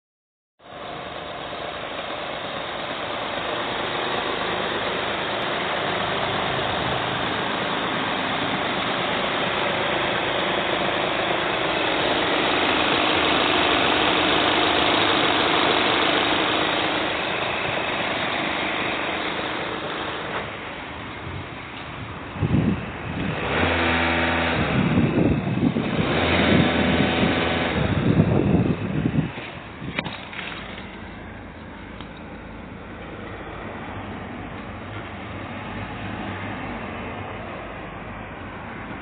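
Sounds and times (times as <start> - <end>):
diesel engine idling: 0.6 - 39.0.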